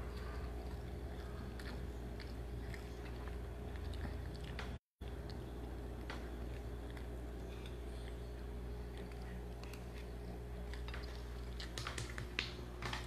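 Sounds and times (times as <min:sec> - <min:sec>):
person chewing noodles: 0:00.0 - 0:11.8
steady low hum: 0:00.0 - 0:13.0.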